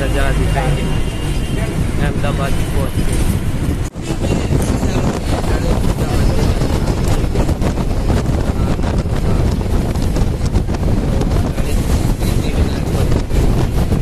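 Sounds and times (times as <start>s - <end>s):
bus engine and tyres rumbling: 0.0s - 14.0s
wind buffeting microphone: 0.0s - 14.0s.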